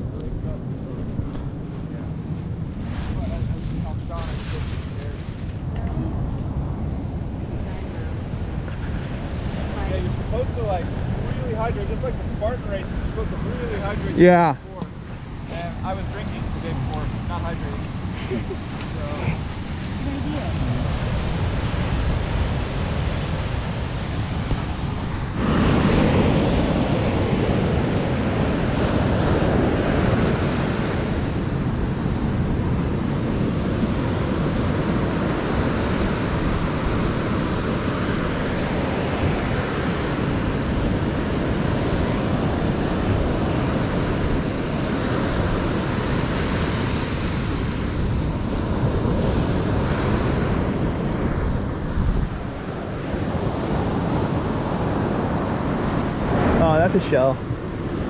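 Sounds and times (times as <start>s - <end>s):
wind buffeting microphone: 0.0s - 58.0s
surf breaking on beach: 1.0s - 58.0s.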